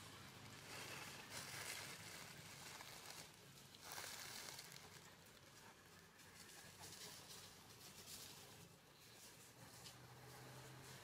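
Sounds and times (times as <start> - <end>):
faint soft rustling: 0.4 - 11.0.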